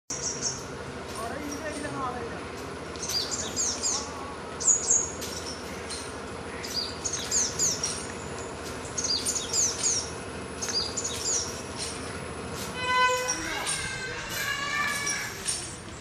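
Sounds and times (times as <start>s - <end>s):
songbird chirping: 0.1s - 16.0s.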